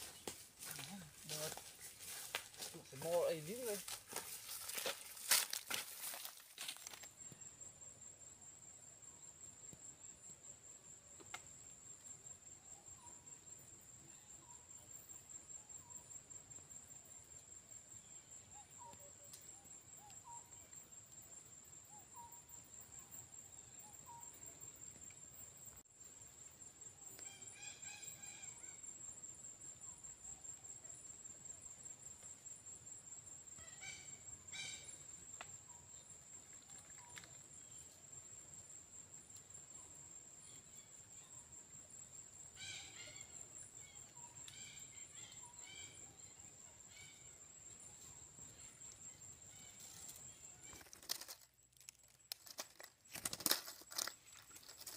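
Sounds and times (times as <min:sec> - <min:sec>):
insect trill: 0:00.0 - 0:54.9
soft insect chirps: 0:00.0 - 0:54.9.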